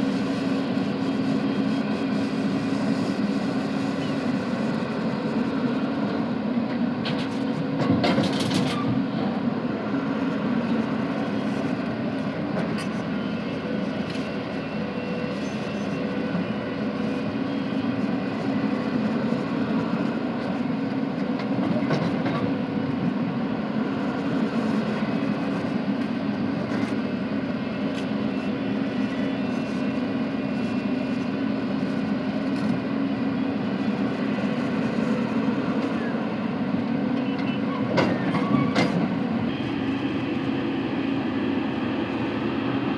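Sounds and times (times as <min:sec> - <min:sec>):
excavator diesel drone: 0:00.0 - 0:42.9.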